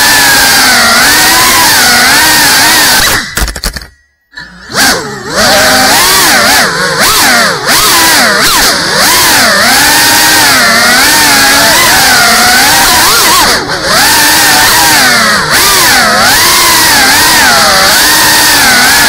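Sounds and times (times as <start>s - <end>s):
drone motors buzzing whine: 0.0s - 19.0s.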